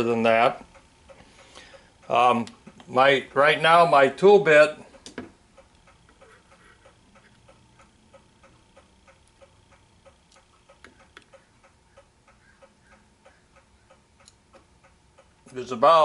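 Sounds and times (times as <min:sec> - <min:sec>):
faint steady ticking: 0:00.0 - 0:16.0.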